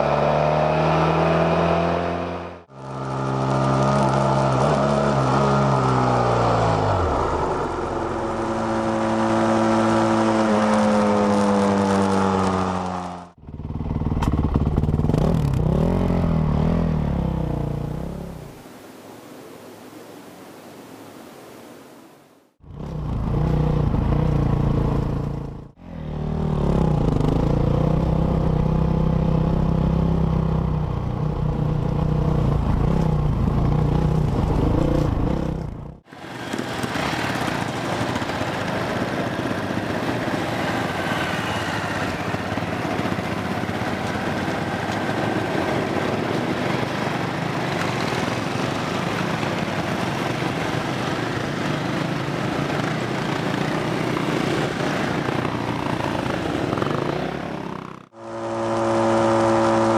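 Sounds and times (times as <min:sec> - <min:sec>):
wind and road noise: 0:00.0 - 0:59.9
motorcycle engine running: 0:07.0 - 0:18.1, 0:22.6 - 0:59.9.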